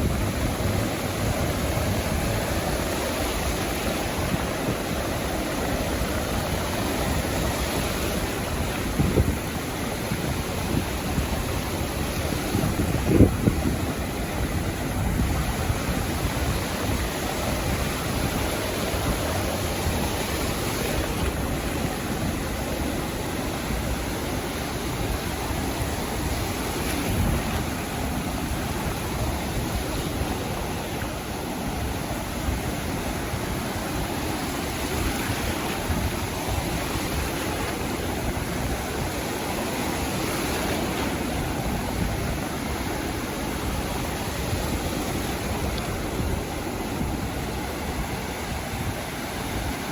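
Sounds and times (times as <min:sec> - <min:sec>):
sea surf washing onto beach: 0:00.0 - 0:49.9.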